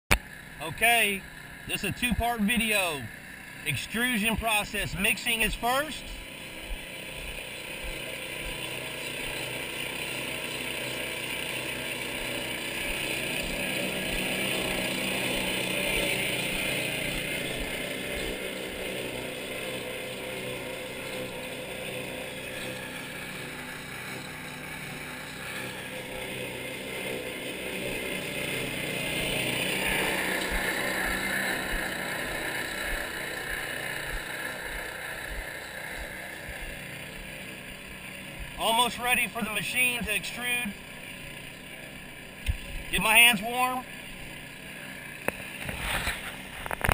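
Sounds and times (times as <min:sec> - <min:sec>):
concrete mixer churning: 0:00.2 - 0:46.9.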